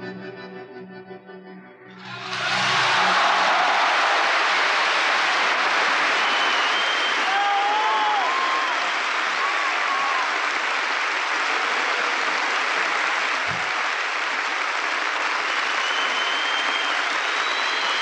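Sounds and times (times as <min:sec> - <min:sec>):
audience applauding: 0:02.0 - 0:18.0.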